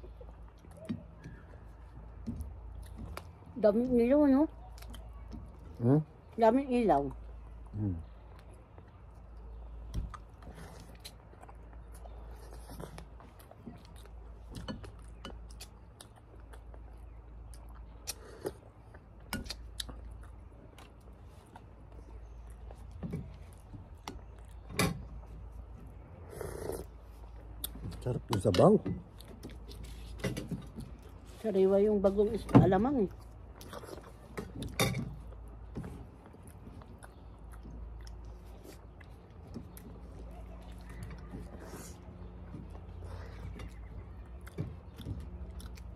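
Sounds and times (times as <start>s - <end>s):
people chewing: 0.0s - 45.9s.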